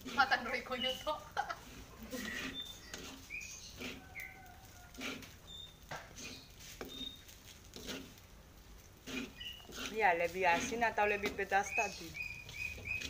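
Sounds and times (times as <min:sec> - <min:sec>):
small birds chirping: 0:00.0 - 0:01.4, 0:02.0 - 0:08.2, 0:08.9 - 0:13.0.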